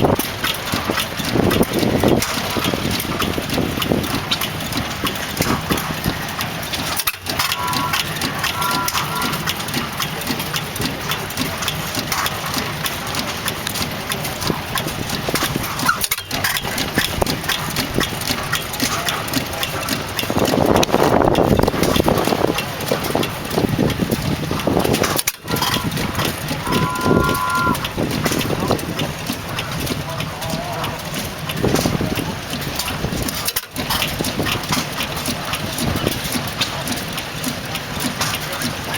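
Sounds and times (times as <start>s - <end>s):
engine clattering rhythmically: 0.0s - 38.9s.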